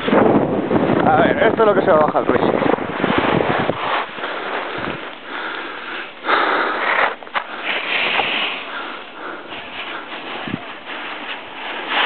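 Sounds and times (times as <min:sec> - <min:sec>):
skis scraping over snow: 0:01.6 - 0:12.0.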